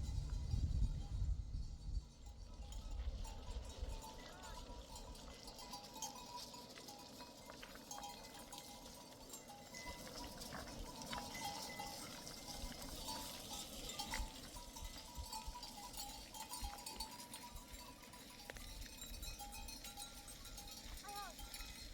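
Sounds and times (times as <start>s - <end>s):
livestock bells clinking: 0.0s - 21.9s.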